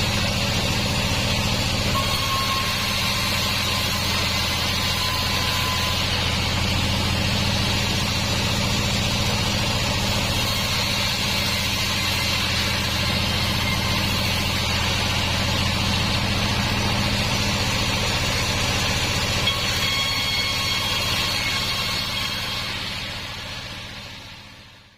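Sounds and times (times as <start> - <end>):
band saw machinery humming: 0.0 - 24.9.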